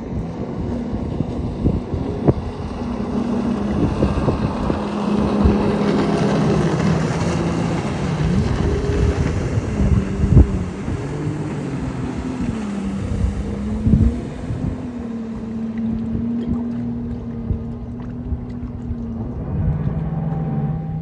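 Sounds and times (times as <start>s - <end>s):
jet ski engine running: 0.0s - 21.0s
wind buffeting microphone: 0.0s - 21.0s.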